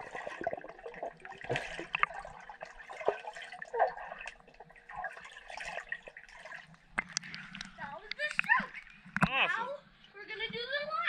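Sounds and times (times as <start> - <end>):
underwater bubbling and sloshing: 0.0 - 10.0.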